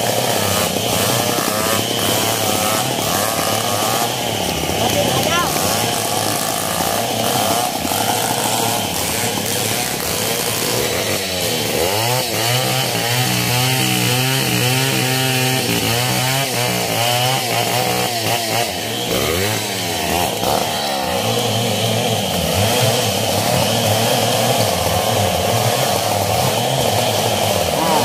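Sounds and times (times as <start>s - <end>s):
chainsaw engine running: 0.0s - 28.0s.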